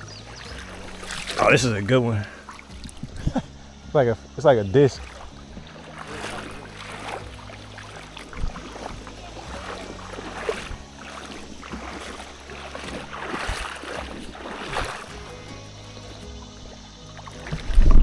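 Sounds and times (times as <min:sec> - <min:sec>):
river water running: 0:00.0 - 0:18.0.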